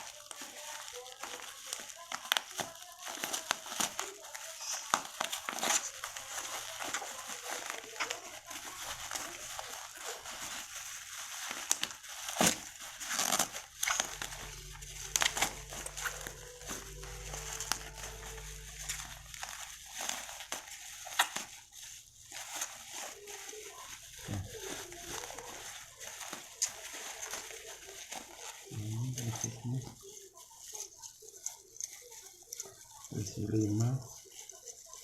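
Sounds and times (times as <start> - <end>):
plastic packaging crinkling: 0.0 - 35.0.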